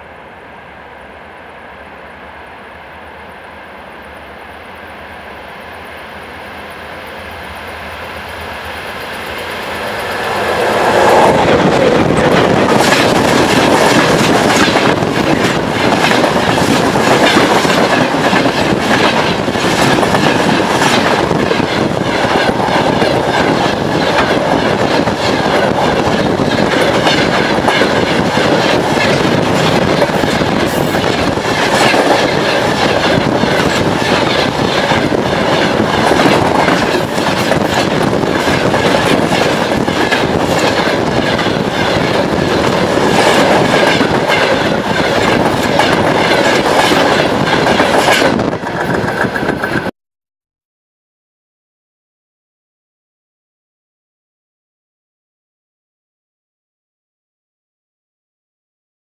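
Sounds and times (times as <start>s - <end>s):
steel wheels rushing on rails: 0.0s - 49.9s.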